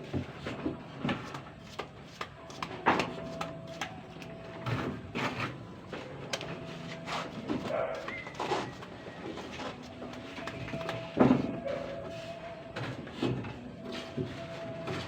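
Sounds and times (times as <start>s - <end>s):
objects knocking and scraping: 0.0s - 12.1s.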